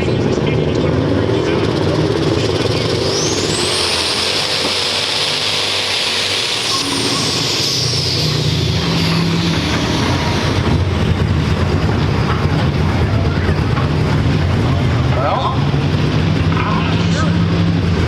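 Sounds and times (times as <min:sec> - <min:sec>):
diesel engine running loud: 0:00.0 - 0:18.0.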